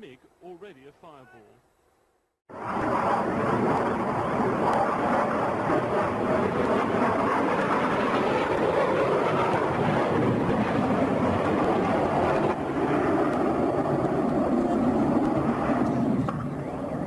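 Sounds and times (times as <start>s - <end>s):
jet aircraft engine noise: 2.5s - 17.0s
wind on microphone: 2.5s - 17.0s.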